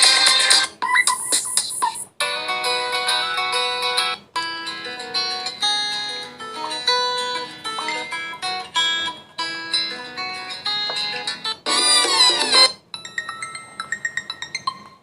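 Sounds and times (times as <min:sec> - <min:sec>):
ringtone of plucked notes: 0:02.2 - 0:15.0.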